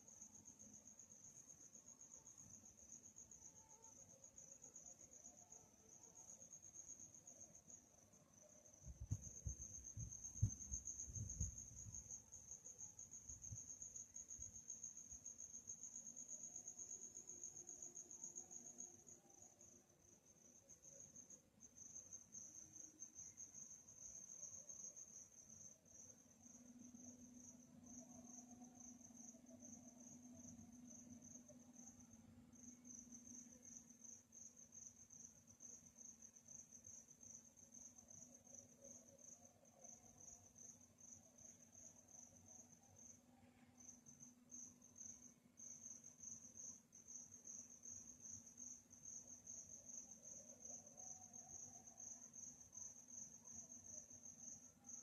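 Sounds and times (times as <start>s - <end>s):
crickets chirping: 0.0s - 55.0s
faint low hum: 0.0s - 55.0s.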